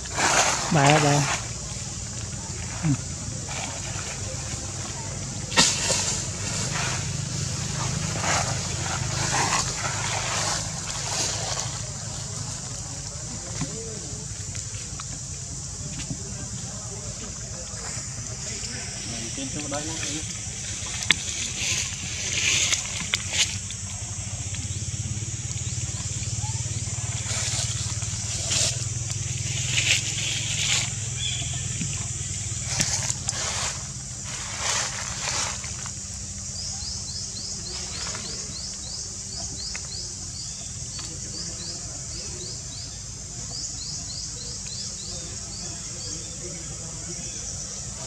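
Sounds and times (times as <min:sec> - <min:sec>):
high insect drone: 0:00.0 - 0:48.0.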